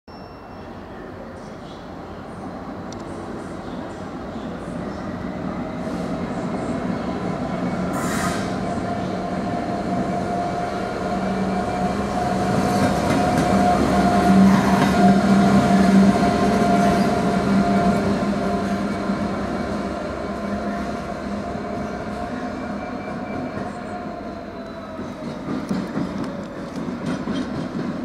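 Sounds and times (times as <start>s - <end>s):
diesel locomotive engine drone: 0.6s - 28.0s.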